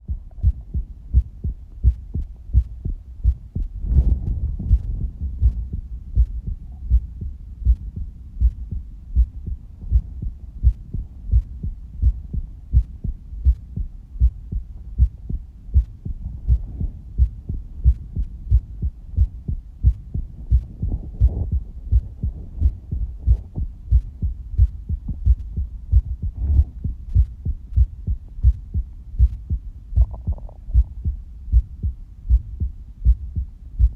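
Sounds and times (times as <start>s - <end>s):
human heartbeat: 0.0s - 33.9s.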